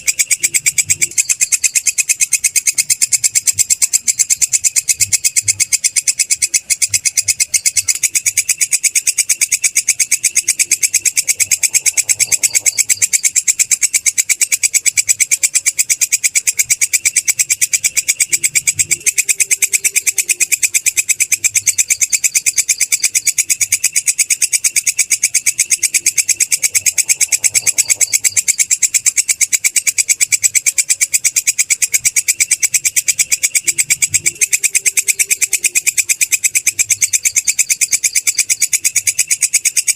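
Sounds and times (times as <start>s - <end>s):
katydid chirring: 0.0s - 39.9s.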